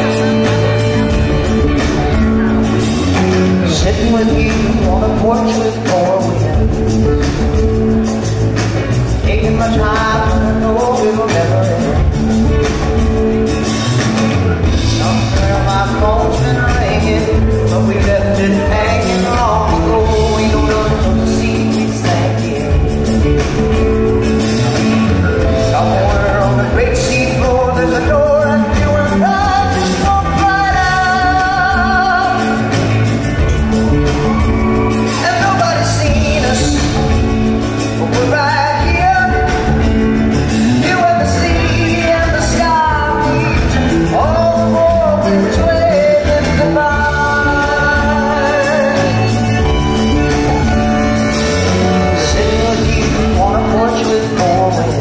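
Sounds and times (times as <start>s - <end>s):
drum kit: 0.0s - 55.0s
electric bass: 0.0s - 55.0s
man singing lead: 0.0s - 55.0s.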